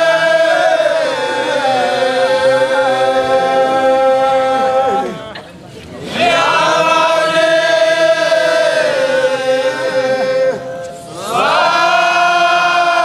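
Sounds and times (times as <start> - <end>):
men chanting a hymn: 0.0 - 5.4, 6.0 - 13.0.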